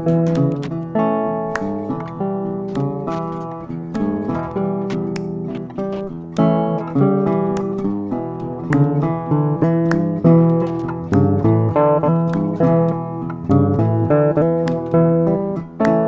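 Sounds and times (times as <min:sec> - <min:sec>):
acoustic guitar picking and strumming: 0:00.0 - 0:16.0.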